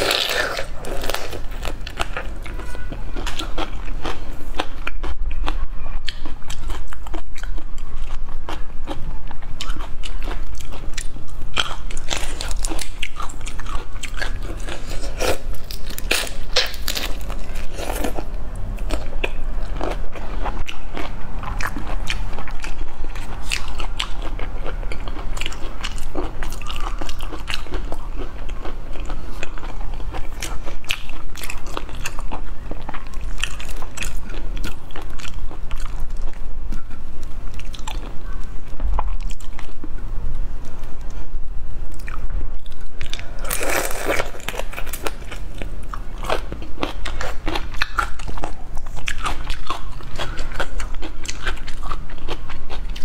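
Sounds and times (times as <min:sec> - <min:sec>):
chewing and crunching prawn: 0:00.0 - 0:39.9, 0:42.0 - 0:53.0.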